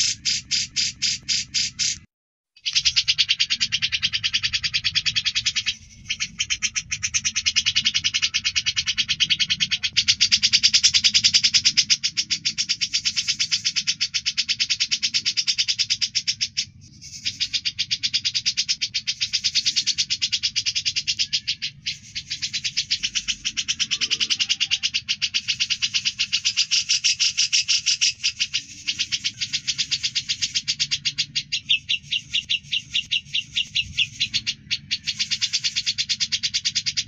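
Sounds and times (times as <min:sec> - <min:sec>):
songbird rasping clicking call: 0:00.0 - 0:37.0.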